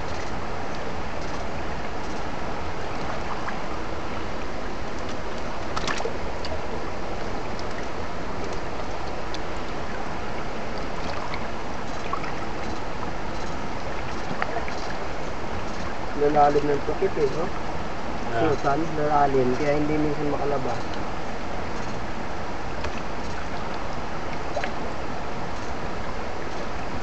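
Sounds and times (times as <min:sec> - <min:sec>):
stream water running over rocks: 0:00.1 - 0:27.0.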